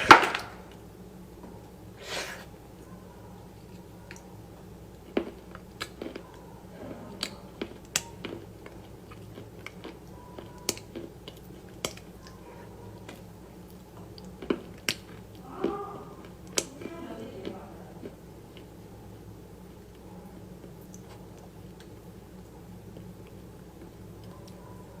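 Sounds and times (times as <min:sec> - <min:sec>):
wet chewing with clicks: 0:02.8 - 0:18.9, 0:19.7 - 0:25.0.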